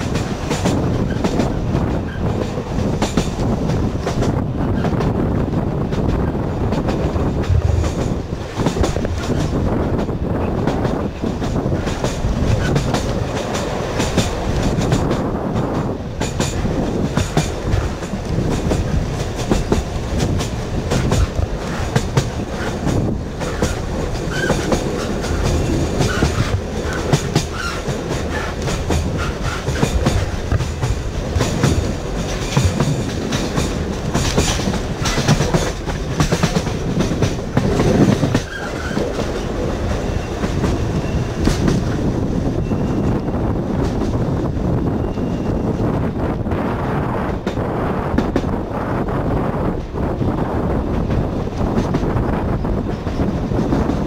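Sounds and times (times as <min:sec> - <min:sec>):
electric train rumbling: 0:00.0 - 0:54.0.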